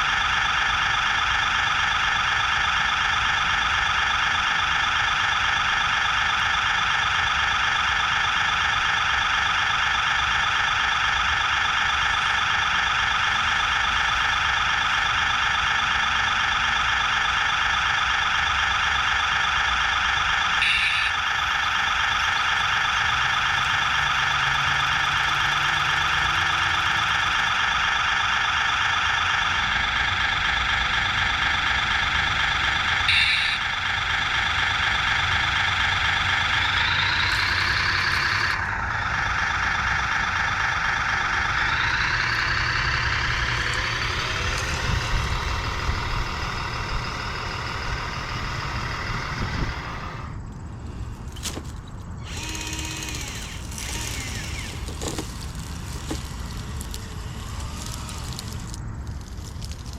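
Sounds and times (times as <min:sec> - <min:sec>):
excavator electric whine: 0:00.0 - 0:59.9.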